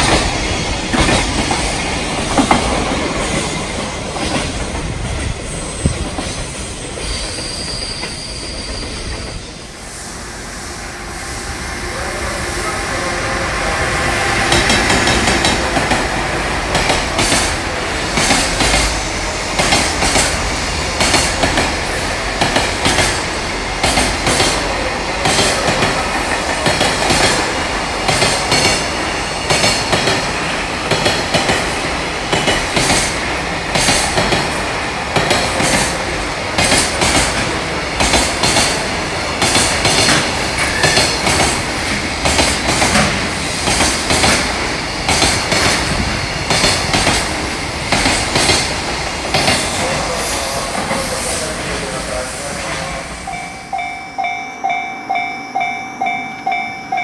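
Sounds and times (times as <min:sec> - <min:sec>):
train wheels clickety-clack: 0:00.0 - 0:09.5, 0:14.0 - 0:53.4.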